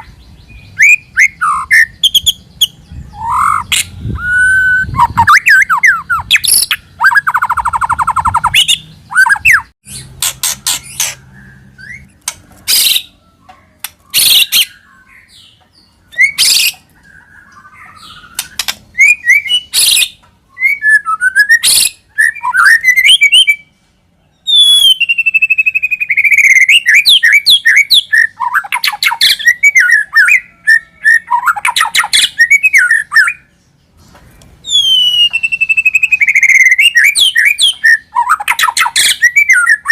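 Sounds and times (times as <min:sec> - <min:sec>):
songbird singing whistles and trills: 0:00.0 - 0:23.7, 0:24.3 - 0:33.6, 0:34.6 - 0:39.9.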